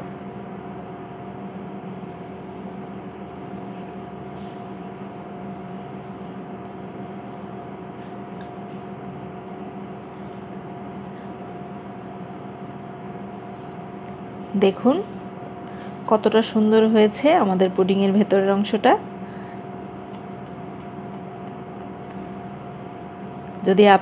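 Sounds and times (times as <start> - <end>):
machine hum with tones: 0.0 - 24.0.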